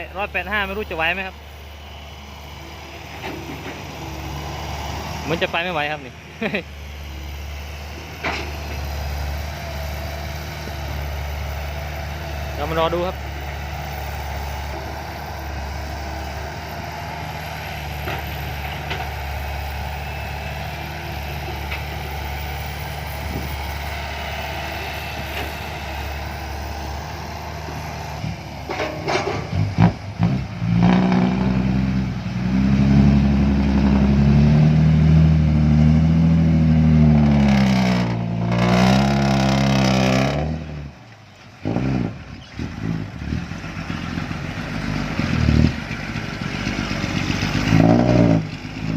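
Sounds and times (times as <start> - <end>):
dump truck diesel engine straining: 0.0 - 48.9.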